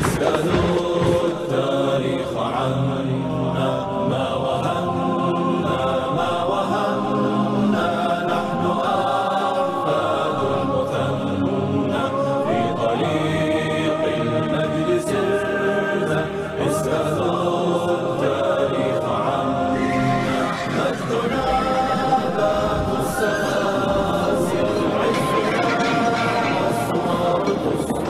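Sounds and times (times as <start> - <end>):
choir chanting: 0.0 - 28.0.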